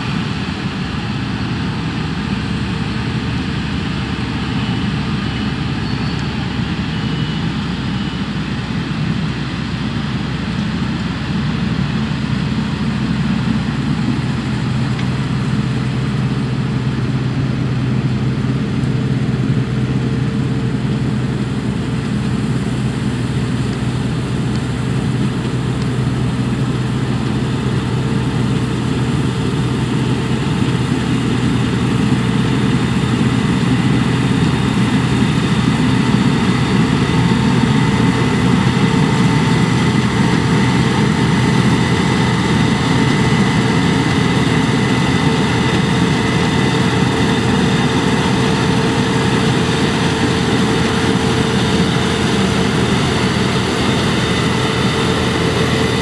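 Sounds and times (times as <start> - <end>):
combine harvester engine drone: 0.0 - 56.0
threshing machinery noise: 0.0 - 56.0.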